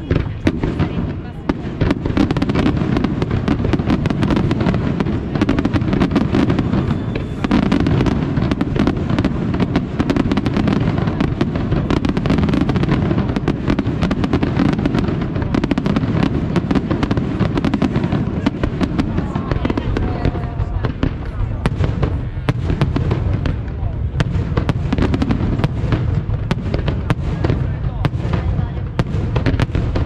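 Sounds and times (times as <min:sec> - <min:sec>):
fireworks cracking and banging: 0:00.0 - 0:30.0.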